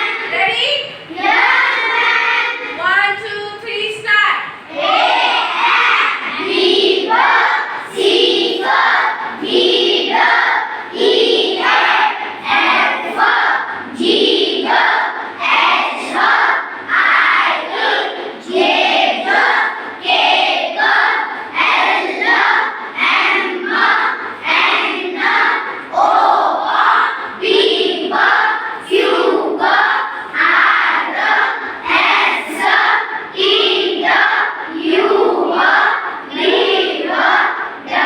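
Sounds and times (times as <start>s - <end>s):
children chanting in unison: 0.0s - 3.0s, 4.5s - 38.0s.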